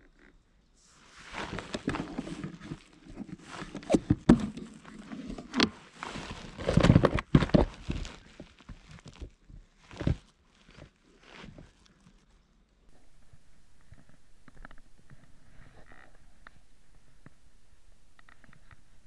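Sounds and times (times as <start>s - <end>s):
rustling handling noise: 0.8s - 19.0s.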